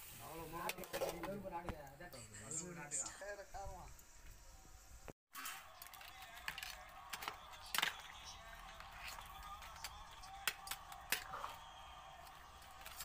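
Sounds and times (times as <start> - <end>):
faint background music: 0.3 - 13.0.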